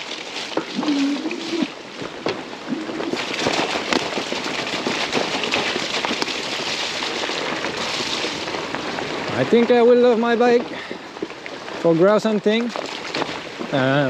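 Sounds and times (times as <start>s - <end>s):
bike tyres rolling on wet gravel: 0.0s - 14.0s
grit crackling under tyres: 0.0s - 14.0s.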